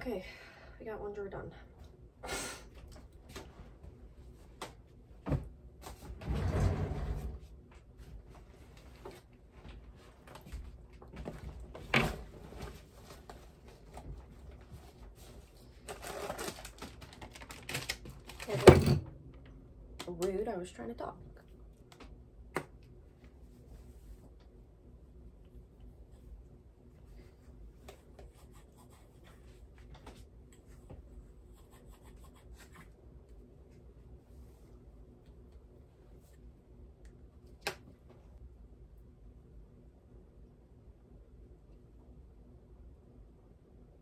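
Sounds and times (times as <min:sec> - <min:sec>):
low room hum: 0:00.0 - 0:44.0.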